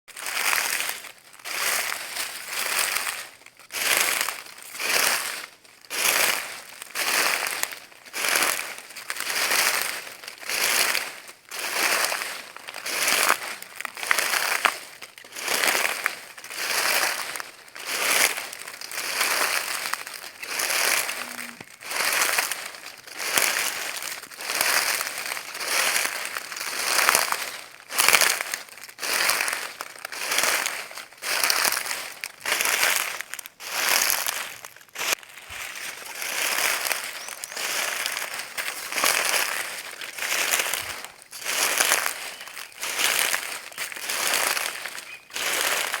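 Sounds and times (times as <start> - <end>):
footsteps crunching dry leaves: 0.1 - 46.0.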